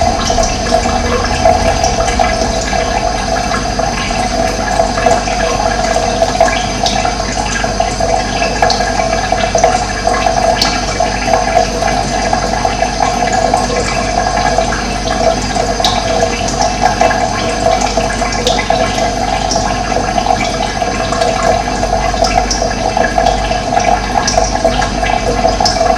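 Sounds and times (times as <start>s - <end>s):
running water rushing: 0.0s - 25.9s.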